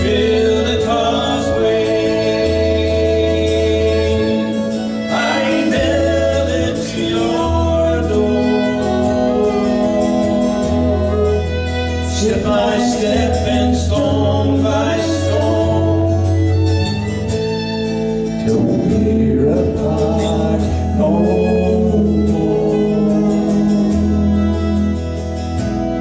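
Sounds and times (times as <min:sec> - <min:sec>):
person singing: 0:00.0 - 0:17.0, 0:18.4 - 0:25.1
fiddle playing: 0:00.0 - 0:26.0.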